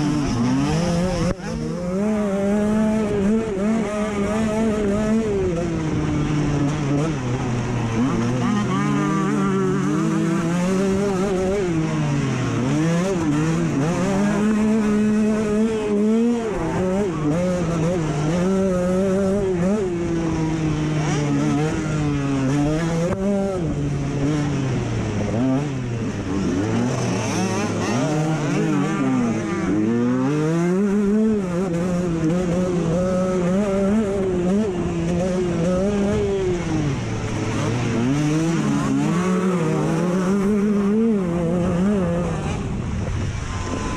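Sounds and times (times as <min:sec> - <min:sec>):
off-road motorcycle engine revving: 0:00.0 - 0:43.9.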